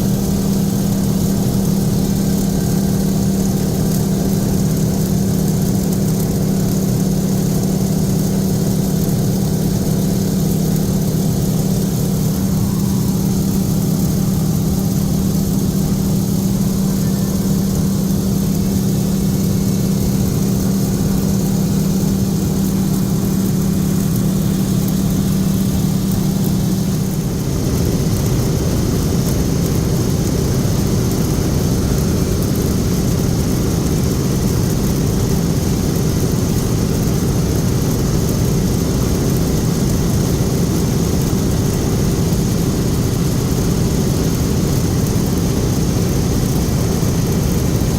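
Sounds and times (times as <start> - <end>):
propeller aircraft engine droning: 0.0 - 47.9.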